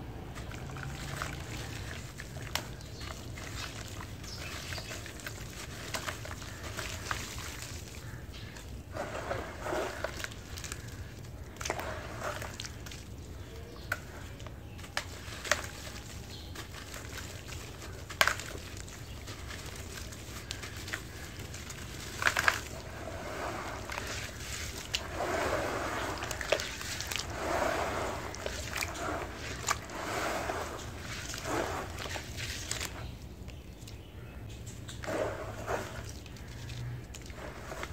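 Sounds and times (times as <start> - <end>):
hands crumbling wet dirt: 0.0 - 37.9
muddy water splashing: 0.2 - 34.0, 34.8 - 37.9.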